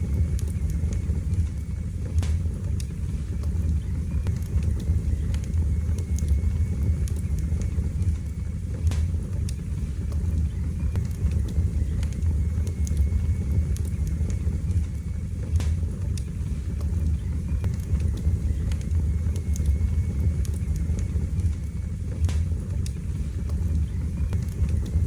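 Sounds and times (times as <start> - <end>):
wood fire roaring and crackling: 0.0 - 25.0.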